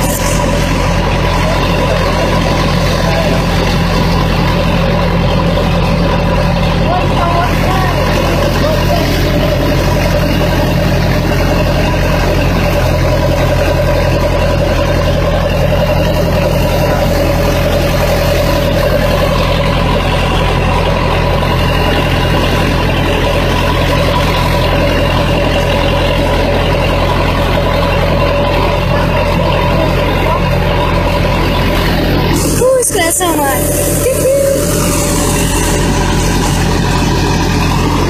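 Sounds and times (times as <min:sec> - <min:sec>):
heavy engine droning: 0:00.0 - 0:38.0.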